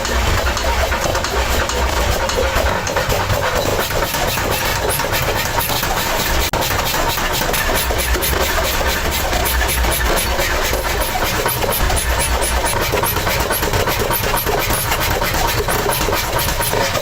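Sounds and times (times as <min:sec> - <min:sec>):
workshop machinery humming and rattling: 0:00.0 - 0:17.0.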